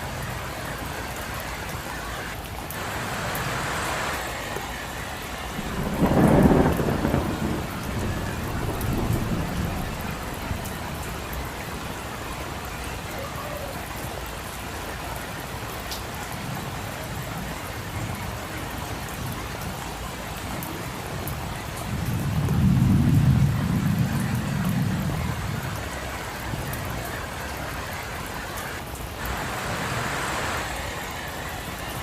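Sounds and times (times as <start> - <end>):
rain falling on street: 0.0 - 32.0.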